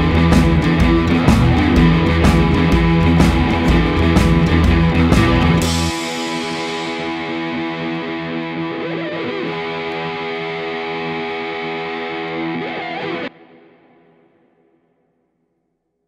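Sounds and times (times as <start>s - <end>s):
distorted electric guitar chords: 0.0s - 15.2s.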